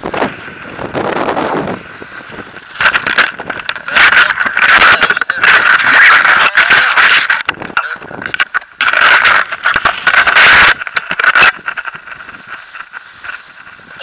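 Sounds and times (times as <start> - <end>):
wind gusts on microphone: 0.0 - 14.0.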